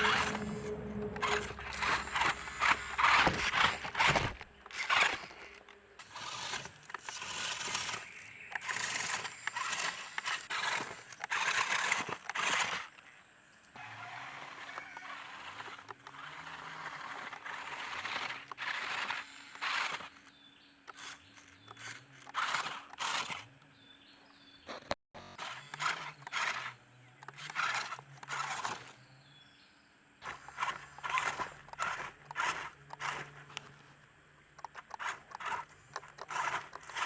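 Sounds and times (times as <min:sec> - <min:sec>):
electric motor and gears whirring: 0:00.0 - 0:37.0.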